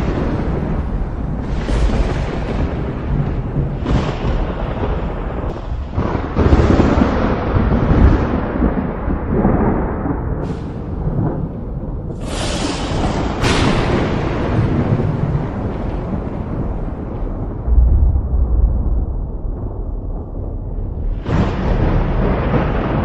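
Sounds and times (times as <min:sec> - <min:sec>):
steady rain: 0:00.0 - 0:23.0
thunder cracks and rumble: 0:00.0 - 0:23.0.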